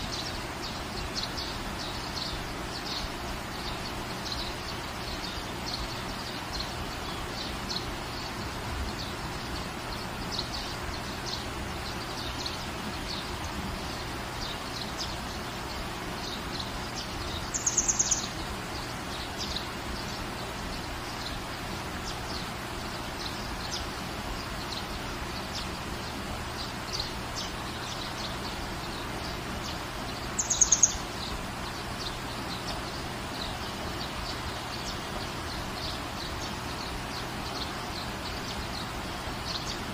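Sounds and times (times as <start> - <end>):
rain hiss: 0.0 - 39.9
small birds chirping: 0.0 - 39.9.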